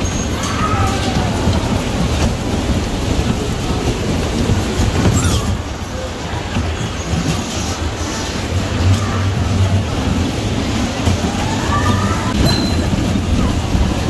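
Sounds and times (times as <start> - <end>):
bumper car rumbling: 0.0 - 14.0.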